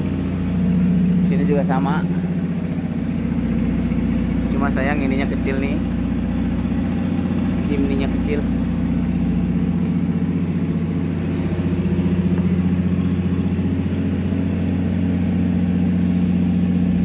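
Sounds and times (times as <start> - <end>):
large machine humming with pulsing beat: 0.0 - 17.0.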